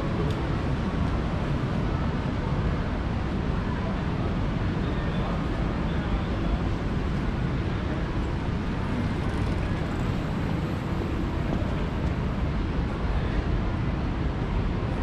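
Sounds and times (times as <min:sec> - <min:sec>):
rumble of passing traffic: 0:00.0 - 0:15.0.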